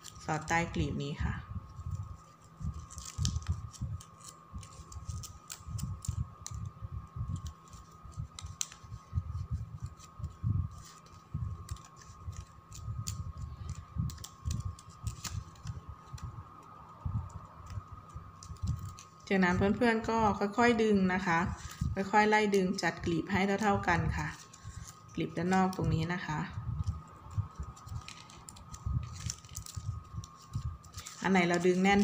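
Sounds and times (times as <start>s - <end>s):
ribbon crinkly clicks: 1.7s - 19.8s, 23.6s - 32.0s.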